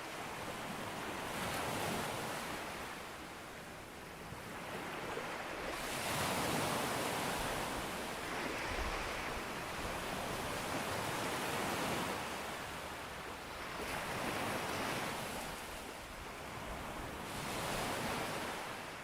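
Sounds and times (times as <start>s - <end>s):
ocean waves breaking on beach: 0.0s - 19.0s.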